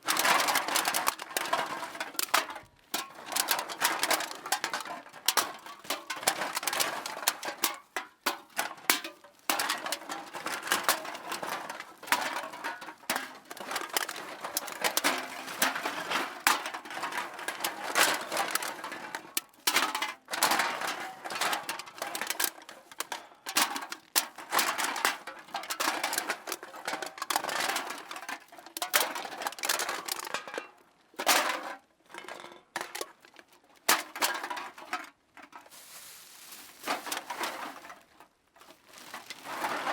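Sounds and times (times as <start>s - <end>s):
empty cans clattering: 0.0s - 35.8s, 36.8s - 38.2s.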